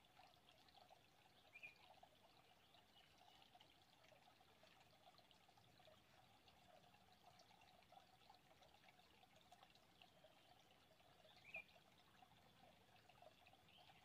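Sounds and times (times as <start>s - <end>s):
stream trickling over stones: 0.0s - 14.0s.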